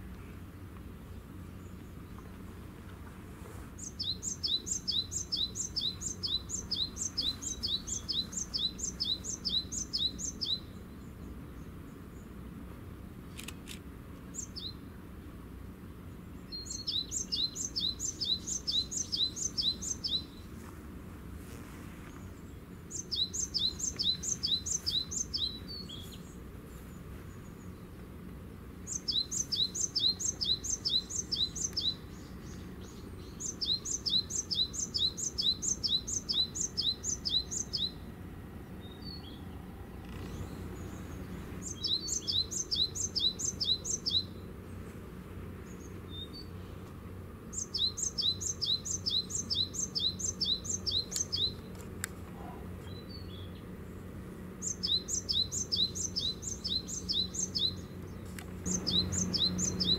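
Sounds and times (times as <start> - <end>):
low steady hum: 0.0 - 59.9
songbird chirping: 0.0 - 59.9.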